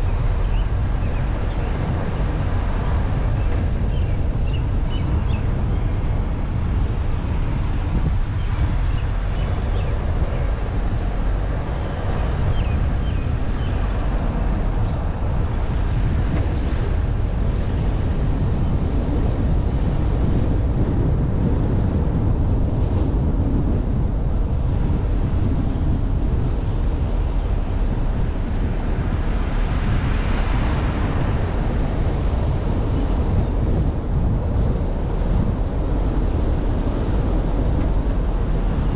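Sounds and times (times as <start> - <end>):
car driving rumble: 0.0 - 38.9
wind buffeting microphone: 0.0 - 38.9.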